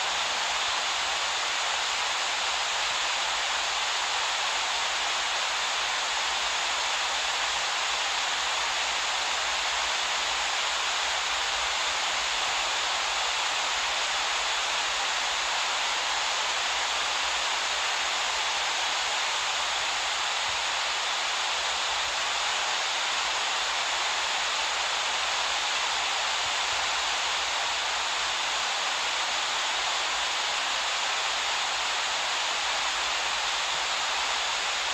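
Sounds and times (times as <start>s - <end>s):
waterfall and river rapids rushing: 0.0s - 34.9s.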